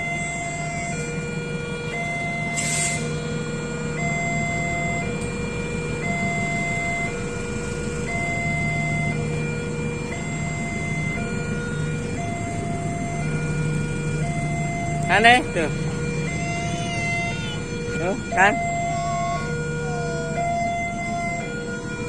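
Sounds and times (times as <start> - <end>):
two-tone electronic alarm: 0.0 - 22.0.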